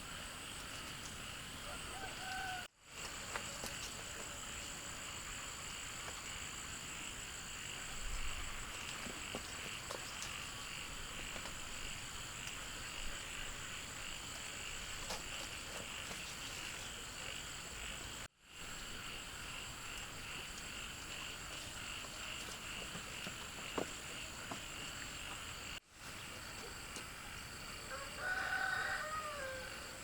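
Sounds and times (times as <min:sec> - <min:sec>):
frogs and insects calling: 0:00.0 - 0:30.0.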